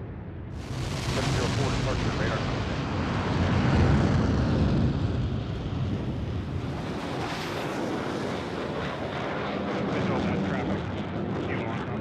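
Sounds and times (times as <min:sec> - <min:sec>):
jet engine rumble: 0:00.1 - 0:12.0.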